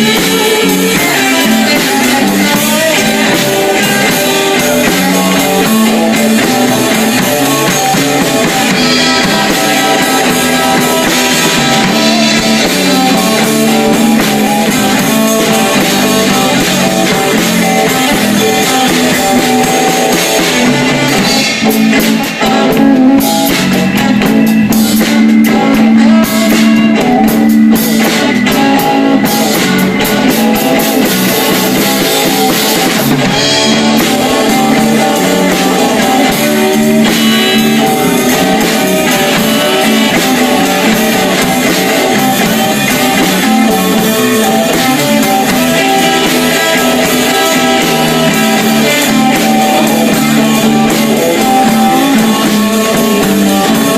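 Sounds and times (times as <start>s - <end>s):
bass: 0.0s - 53.9s
drum kit: 0.0s - 53.9s
guitar: 0.0s - 53.9s.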